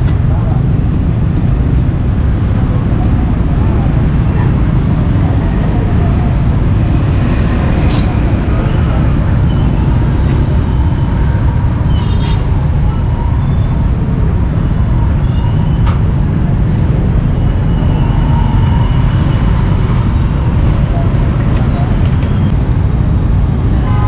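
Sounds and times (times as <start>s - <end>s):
low rumble of street traffic: 0.0s - 24.0s.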